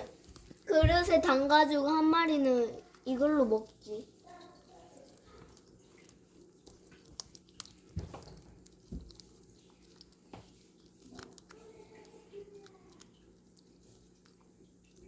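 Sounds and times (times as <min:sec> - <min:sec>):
cats licking and chewing: 0:00.0 - 0:15.0.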